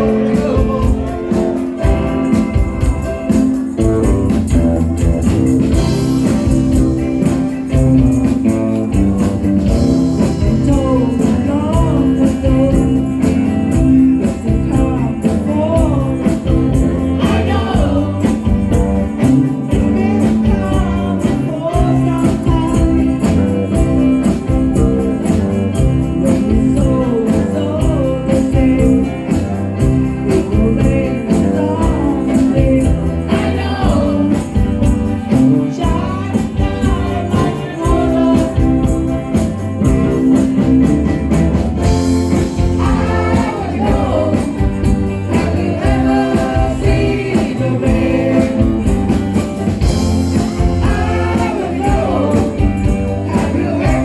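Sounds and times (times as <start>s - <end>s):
person singing: 0.0s - 3.2s, 9.8s - 40.4s, 42.1s - 54.0s
band music with tambourine: 0.0s - 54.0s.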